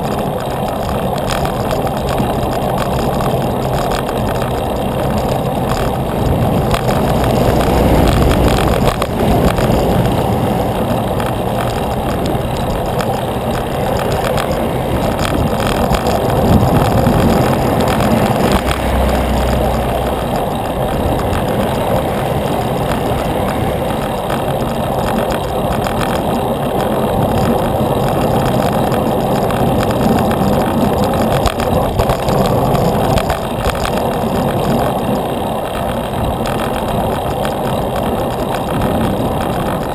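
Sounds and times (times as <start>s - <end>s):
bicycle road noise: 0.0s - 39.9s
motor traffic: 0.0s - 39.9s
wind rush on microphone: 0.0s - 39.9s.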